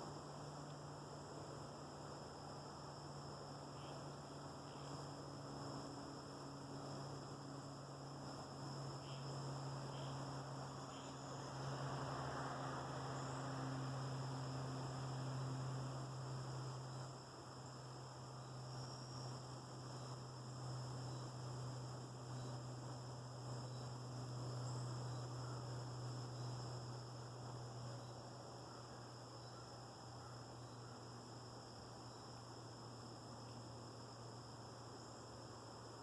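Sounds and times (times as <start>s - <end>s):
faint high whine: 0.0s - 36.0s
steady low hum: 0.0s - 36.0s.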